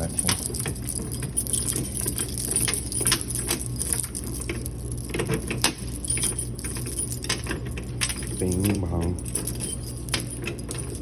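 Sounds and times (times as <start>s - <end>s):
items clicking and rattling: 0.0s - 11.0s
steady low hum: 0.0s - 11.0s.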